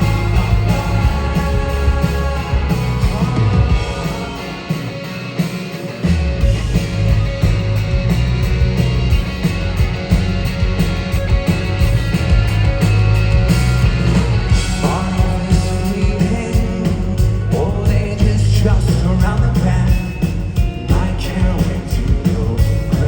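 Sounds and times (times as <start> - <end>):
live rock band instrumental: 0.0 - 23.0.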